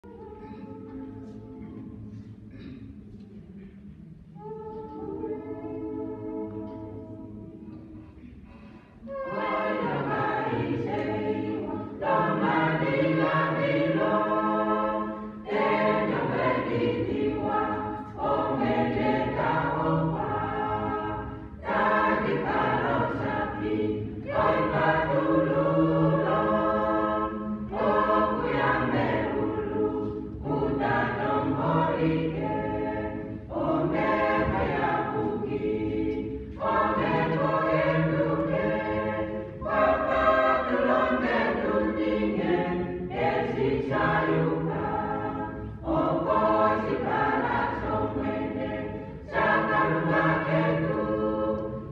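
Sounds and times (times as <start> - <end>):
mixed choir singing a hymn: 0.0 - 2.8, 4.2 - 51.9.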